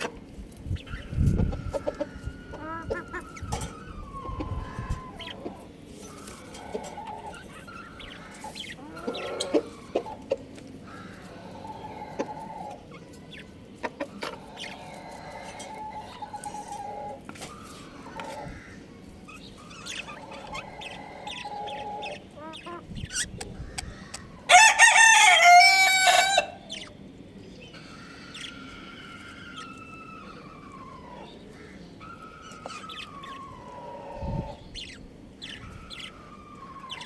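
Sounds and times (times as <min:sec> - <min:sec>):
budgies chirping and chattering: 0:00.0 - 0:24.6, 0:26.6 - 0:37.0.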